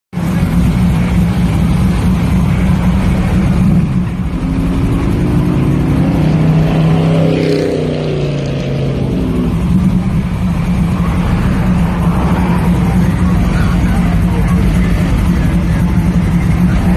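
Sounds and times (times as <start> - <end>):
car engine running: 0.2 - 16.9.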